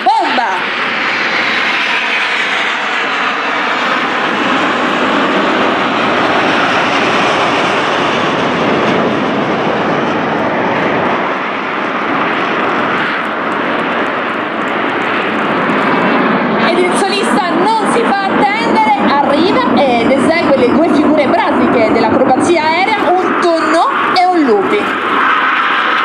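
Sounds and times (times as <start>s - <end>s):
jets passing overhead: 0.0s - 26.0s.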